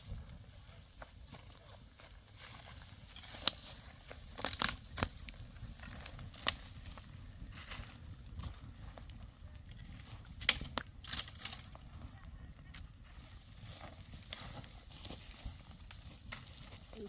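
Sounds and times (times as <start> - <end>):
dry wheat stalks rustling: 0.0 - 11.9, 12.6 - 17.0
steady low rumble: 0.0 - 17.0.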